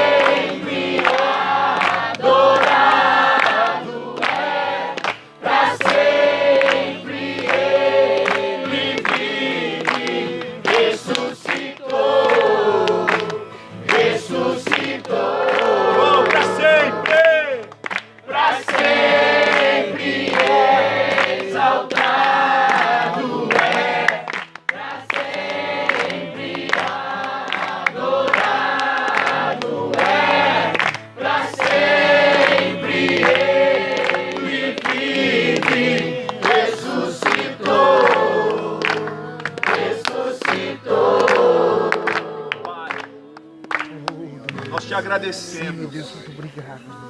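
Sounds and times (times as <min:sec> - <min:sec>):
congregation singing: 0:00.0 - 0:46.1.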